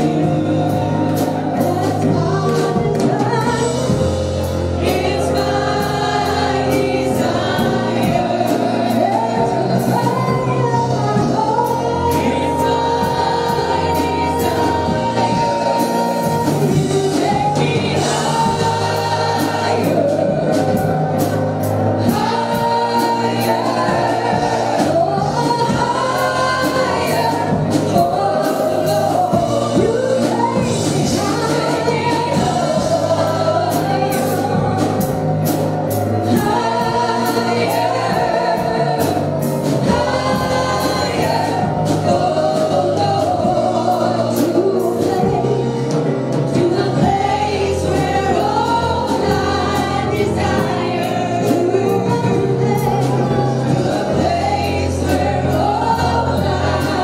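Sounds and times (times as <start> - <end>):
group singing gospel song: 0.0 - 57.0
instrumental accompaniment: 0.0 - 57.0.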